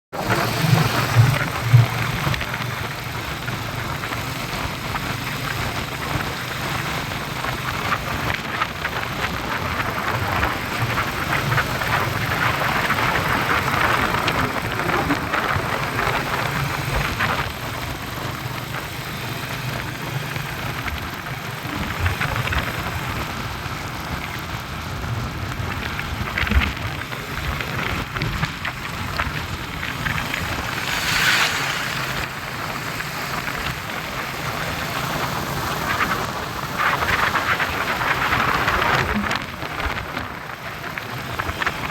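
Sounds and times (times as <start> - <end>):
wind and road noise: 0.1 - 41.9
motorcycle engine running: 0.2 - 41.9.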